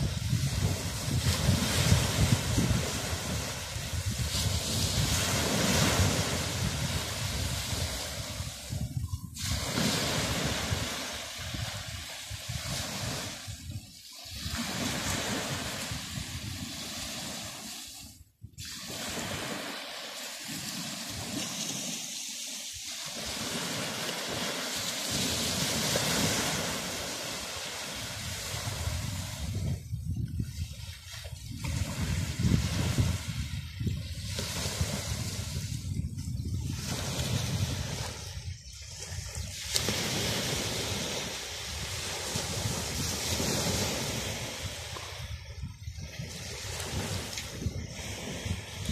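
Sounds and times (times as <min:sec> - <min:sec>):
waves breaking on sandy beach: 0:00.0 - 0:48.9.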